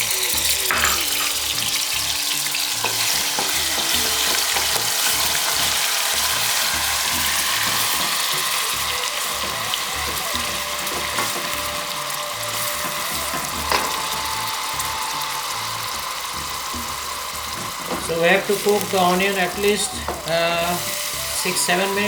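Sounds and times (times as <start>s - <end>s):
onion paste sizzling in oil: 0.0s - 22.0s.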